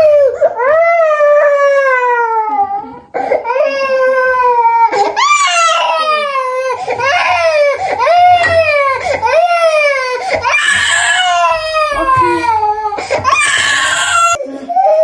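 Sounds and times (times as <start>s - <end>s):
toddler crying: 0.0s - 15.0s.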